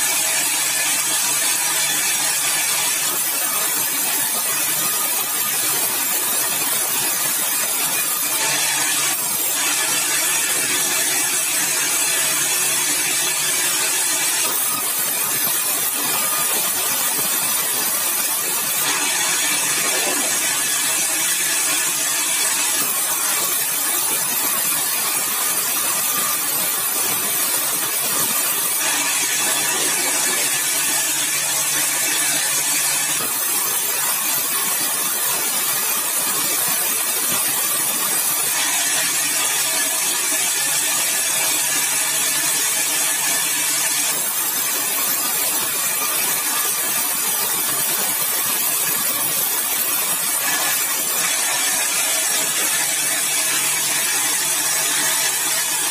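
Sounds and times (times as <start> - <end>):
saw cutting through log: 0.0 - 55.9.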